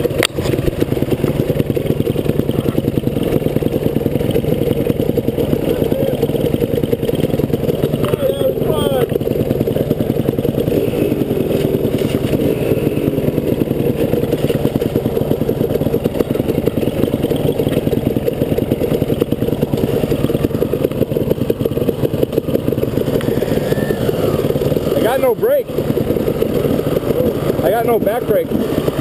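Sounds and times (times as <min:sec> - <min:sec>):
dirt bike engine idling: 0:00.0 - 0:29.0.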